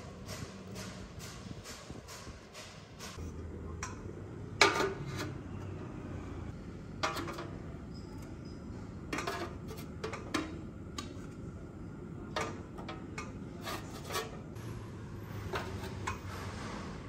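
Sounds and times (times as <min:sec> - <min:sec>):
low steady hum: 0:03.2 - 0:17.0.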